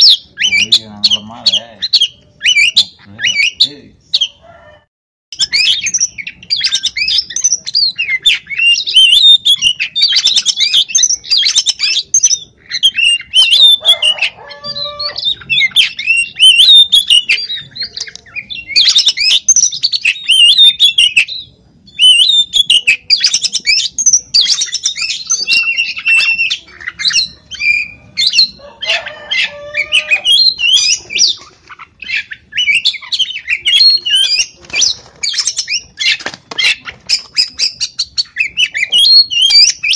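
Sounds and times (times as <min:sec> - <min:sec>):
bird song whistles and chatter: 0:00.0 - 0:04.4, 0:05.4 - 0:39.9.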